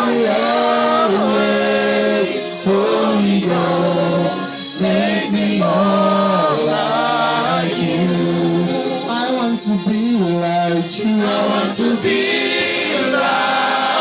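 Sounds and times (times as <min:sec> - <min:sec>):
choir singing gospel: 0:00.0 - 0:14.0.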